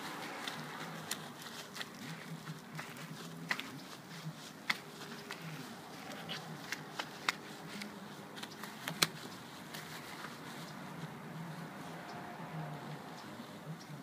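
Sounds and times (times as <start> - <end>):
car wash strips swishing on windows: 0.0 - 13.2.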